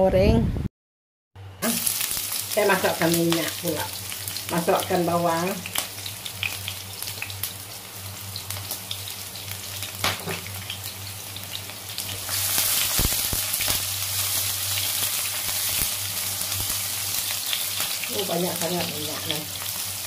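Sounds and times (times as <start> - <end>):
shallots sizzling in hot oil: 1.6 - 20.0.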